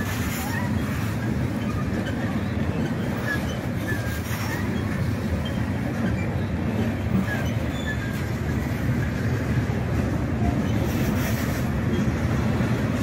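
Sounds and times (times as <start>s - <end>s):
faint high wheel squeals: 0.0s - 9.5s, 10.4s - 13.0s
train wheels rumbling on rail: 0.0s - 13.0s.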